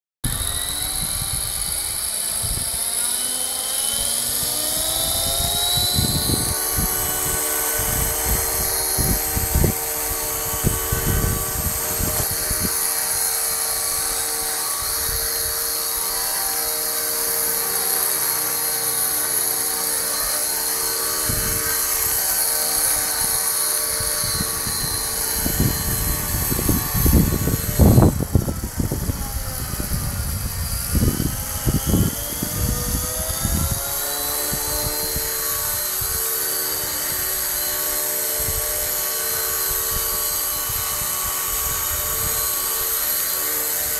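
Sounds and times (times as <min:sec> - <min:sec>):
model helicopter motor whine: 0:00.2 - 0:43.9.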